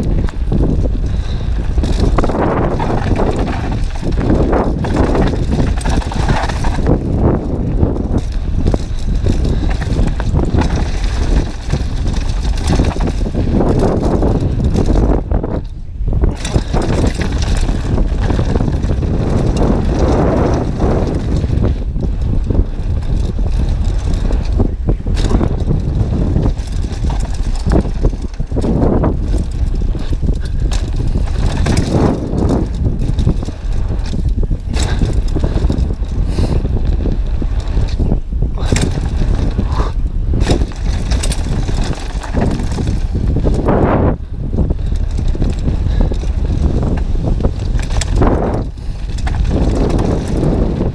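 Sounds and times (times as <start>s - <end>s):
bike clattering over bumps: 0.0s - 50.9s
tyres on loose gravel: 0.0s - 50.9s
wind on microphone: 0.0s - 50.9s.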